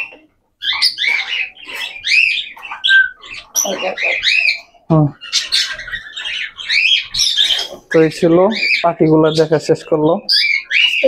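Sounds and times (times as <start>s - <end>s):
parrots chirping and squawking: 0.0s - 11.0s.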